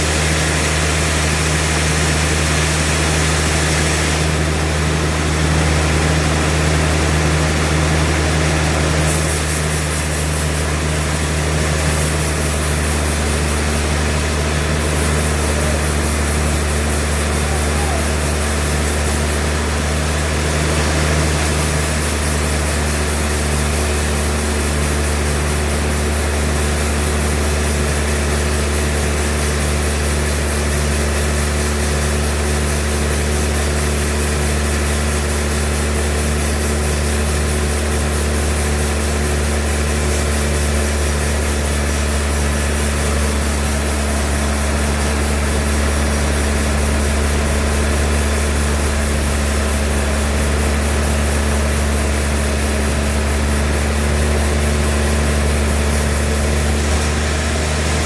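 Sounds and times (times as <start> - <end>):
sawmill engine droning: 0.0 - 58.0.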